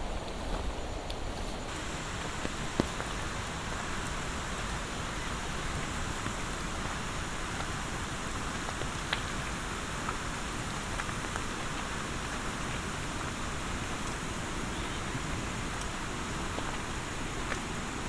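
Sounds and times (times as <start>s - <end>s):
rain falling: 0.1s - 18.0s.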